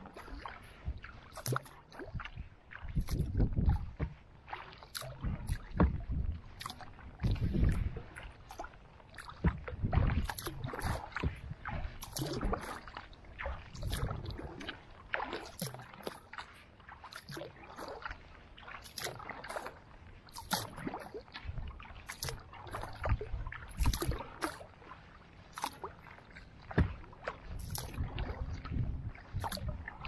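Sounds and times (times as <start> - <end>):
paddle splashing water: 0.0 - 30.0
water running along hull: 0.0 - 30.0.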